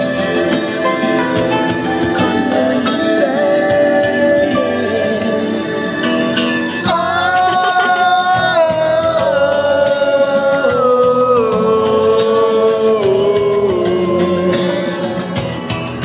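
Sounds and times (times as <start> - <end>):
music with voice singing held notes: 0.0 - 16.0.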